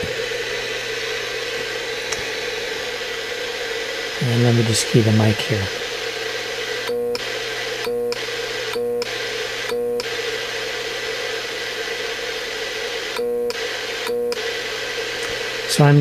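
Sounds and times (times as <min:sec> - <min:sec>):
radio hiss: 0:00.0 - 0:16.0.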